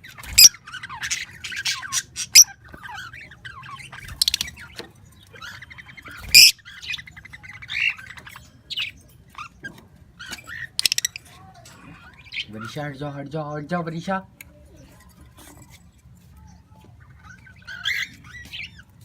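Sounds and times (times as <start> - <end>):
pet birds squawking and chirping: 0.0 - 19.0.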